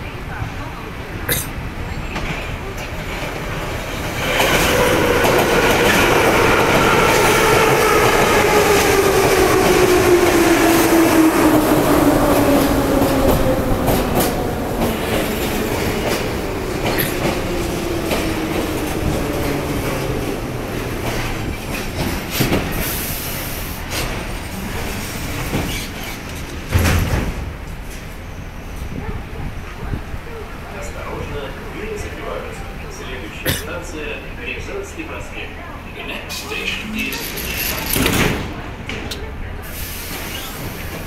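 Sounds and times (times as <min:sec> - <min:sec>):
metro train whine: 0:00.0 - 0:41.0.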